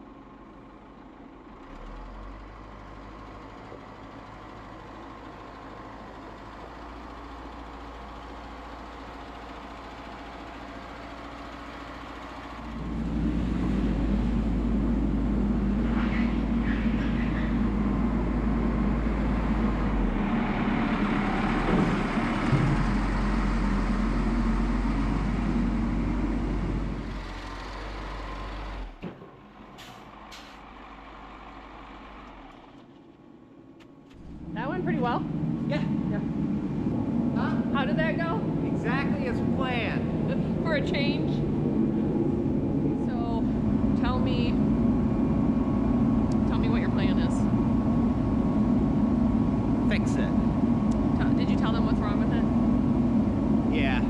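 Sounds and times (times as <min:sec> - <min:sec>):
heavy vehicle engine revving: 0:01.6 - 0:32.8, 0:34.1 - 0:54.0.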